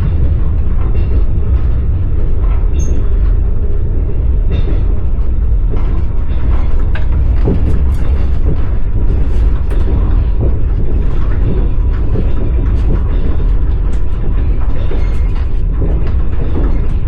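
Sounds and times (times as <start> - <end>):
clicks knocks and creaks of carriage: 0.0 - 17.0
train wheels clattering on rails: 0.0 - 17.0.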